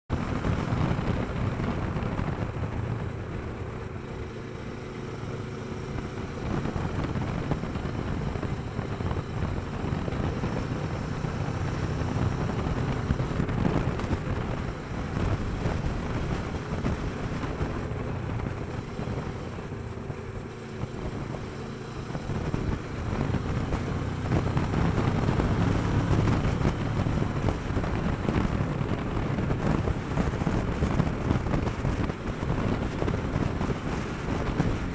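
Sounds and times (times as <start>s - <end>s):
motorcycle engine running: 0.0s - 34.9s
wind rushing over microphone: 0.1s - 34.9s.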